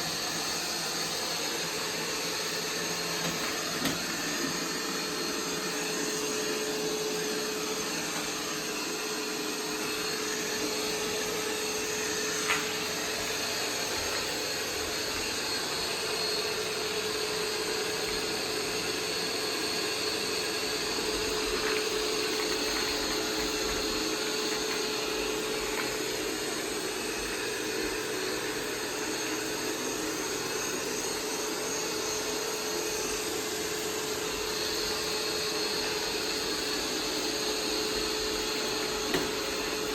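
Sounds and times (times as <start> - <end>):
robot vacuum humming: 0.0 - 39.9.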